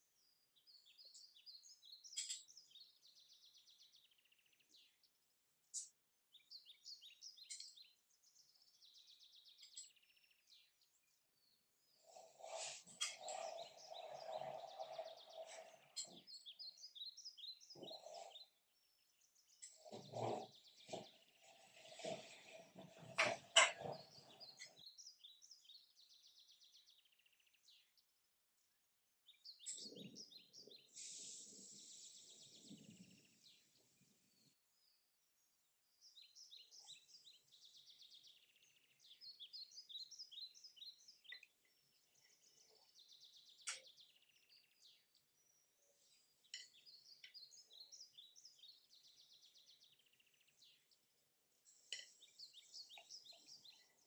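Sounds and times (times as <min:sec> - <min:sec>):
faint birds chirping and trilling: 0:00.0 - 0:54.0.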